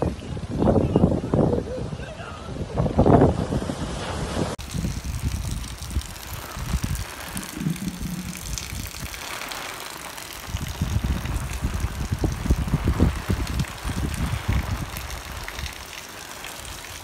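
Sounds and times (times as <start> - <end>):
wind buffeting microphone: 0.0 - 16.0
steady wind hiss: 0.0 - 17.0.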